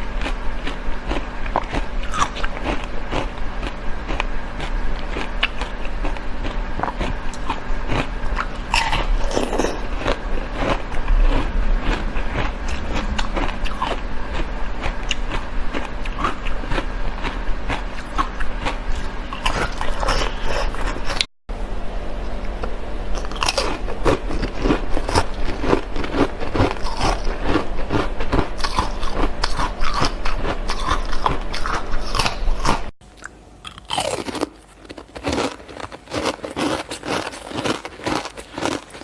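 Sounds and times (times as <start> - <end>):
shaved ice crunching in mouth: 0.2 - 21.2, 23.2 - 32.8, 33.7 - 39.0.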